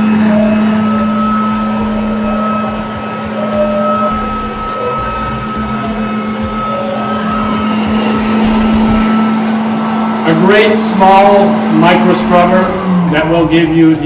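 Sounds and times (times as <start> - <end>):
floor scrubber motors humming: 0.0 - 14.0
high motor whine: 0.0 - 14.0.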